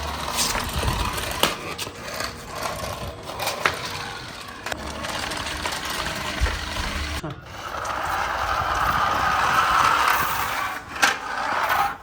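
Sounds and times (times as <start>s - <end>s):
toy car electric motor whirring: 0.0s - 12.0s.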